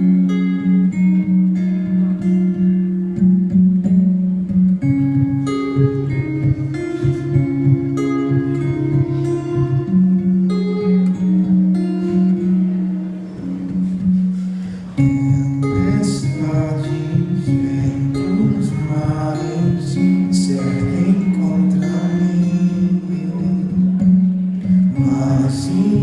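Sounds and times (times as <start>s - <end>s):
plucked strings over low notes: 0.0s - 26.0s.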